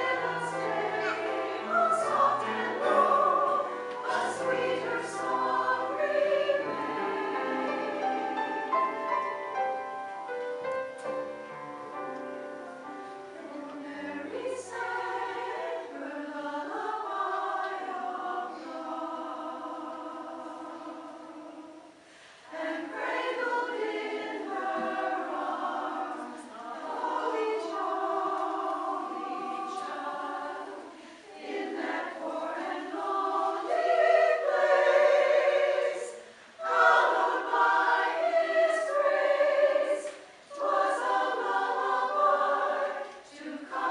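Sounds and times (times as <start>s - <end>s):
mixed choir singing: 0.0s - 10.0s, 12.7s - 43.9s.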